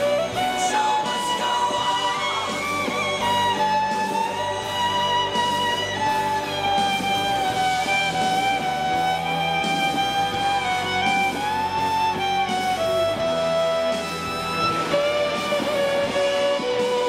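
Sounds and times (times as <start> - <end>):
electric violin slow melody: 0.0 - 17.0
low sustained accompaniment: 0.0 - 17.0.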